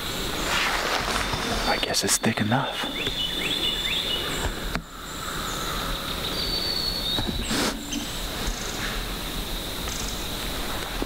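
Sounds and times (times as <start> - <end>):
rustle: 0.0 - 11.0
steady hiss: 0.0 - 11.0.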